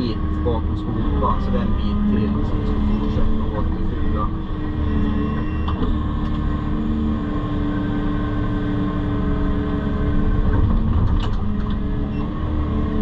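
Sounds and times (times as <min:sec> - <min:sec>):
excavator diesel engine: 0:00.0 - 0:13.0.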